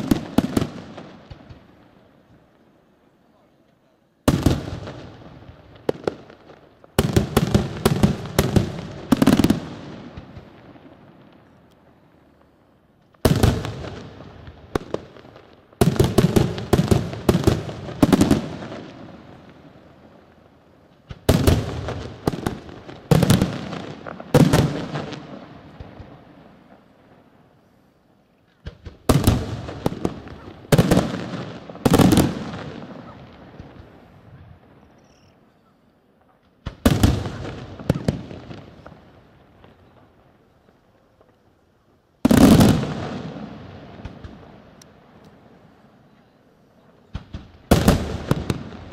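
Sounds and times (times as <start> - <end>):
loud firework bangs: 0.0 - 1.8, 4.2 - 12.0, 13.2 - 27.3, 28.6 - 34.9, 36.6 - 41.4, 42.2 - 45.2, 47.0 - 48.9
firework cracks: 0.0 - 2.7, 3.7 - 27.3, 28.4 - 34.9, 36.4 - 46.0, 47.0 - 48.9.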